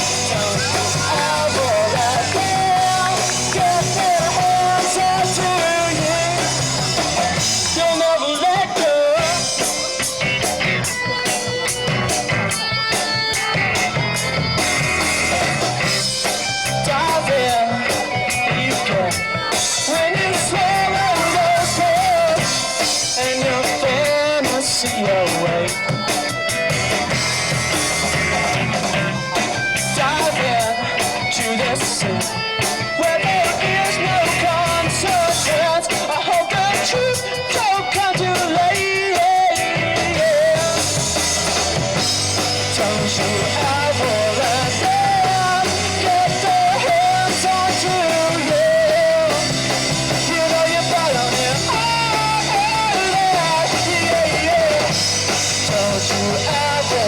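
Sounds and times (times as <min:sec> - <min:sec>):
person singing lead vocal: 0:00.0 - 0:14.7, 0:15.4 - 0:27.1, 0:28.9 - 0:57.0
distorted electric guitars: 0:00.0 - 0:57.0
drum kit: 0:00.0 - 0:57.0.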